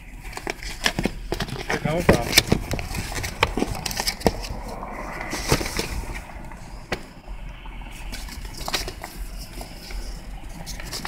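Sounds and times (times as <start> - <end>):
low steady vehicle cabin rumble: 0.0 - 11.0.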